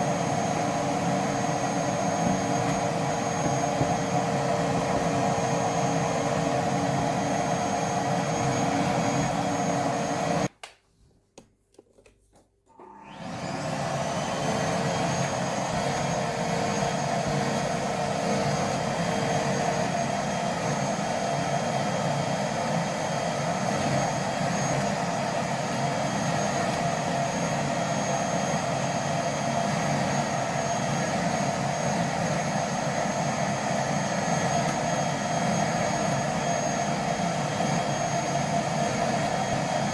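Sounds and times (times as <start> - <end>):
vacuum cleaner running: 0.0 - 10.5, 12.7 - 39.9.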